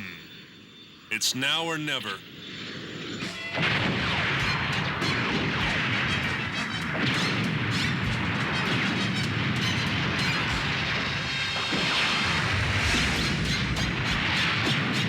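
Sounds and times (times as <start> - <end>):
rumbling explosion blasts and crashes: 2.5 - 15.0.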